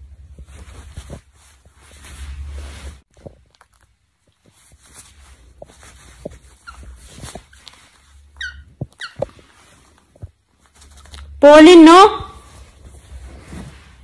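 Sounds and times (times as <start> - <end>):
fabric rustling: 0.0 - 14.0.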